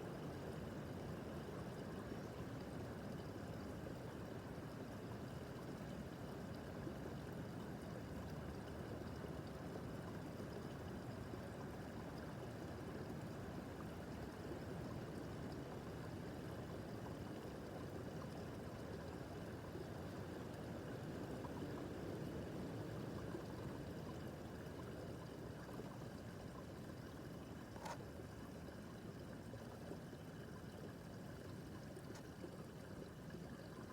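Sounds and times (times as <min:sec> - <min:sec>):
brook babbling over stones: 0:00.0 - 0:33.9.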